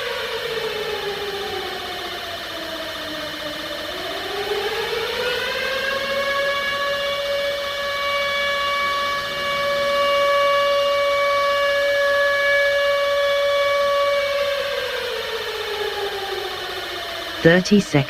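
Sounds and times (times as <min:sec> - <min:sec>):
civil defense siren: 0:00.0 - 0:17.6.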